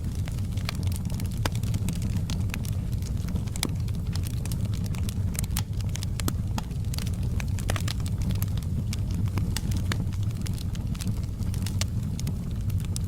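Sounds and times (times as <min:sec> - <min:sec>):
low rumble of burning: 0:00.0 - 0:13.0
wood fire crackling: 0:00.0 - 0:13.0.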